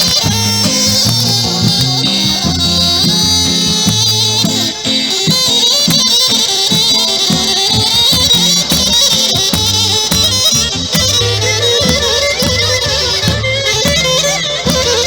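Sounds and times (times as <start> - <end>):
bagpipe playing folk melody: 0.0 - 15.0
percussive strokes: 0.0 - 15.0.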